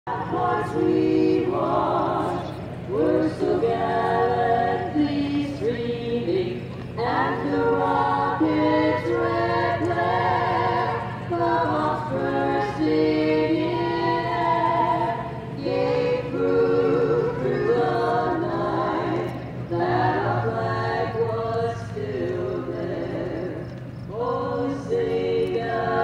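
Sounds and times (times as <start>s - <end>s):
group of voices singing: 0.1s - 26.0s
steady low hum: 0.1s - 26.0s.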